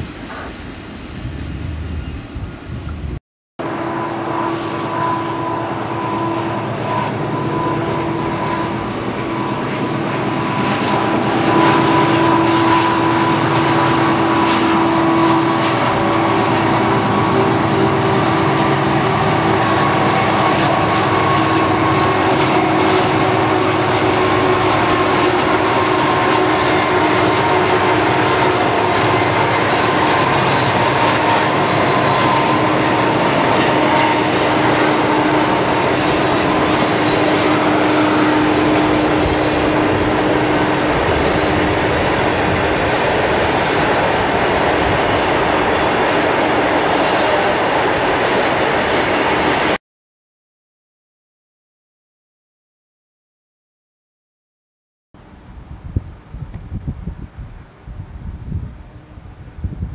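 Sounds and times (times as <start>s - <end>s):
diesel locomotive drone: 0.0s - 49.8s, 55.2s - 59.9s.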